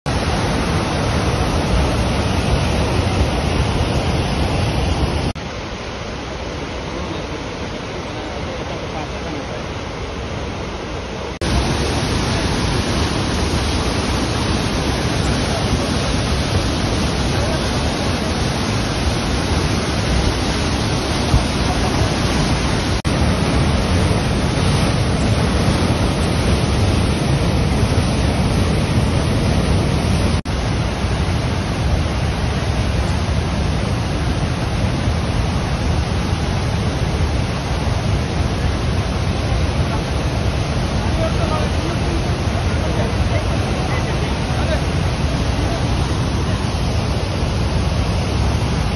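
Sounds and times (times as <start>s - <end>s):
river rushing over boulders: 0.1s - 48.9s.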